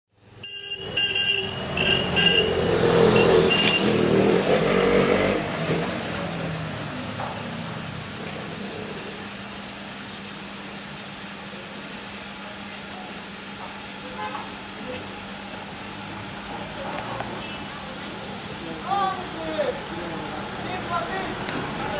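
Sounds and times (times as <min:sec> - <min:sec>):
steam hissing: 0:00.9 - 0:21.9.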